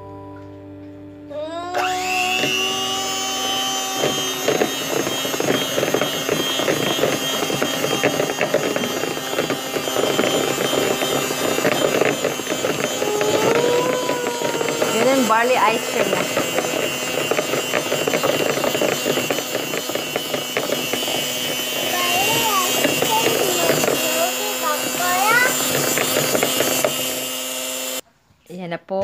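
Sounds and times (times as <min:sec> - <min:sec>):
electric hand mixer whining: 0:01.3 - 0:28.0.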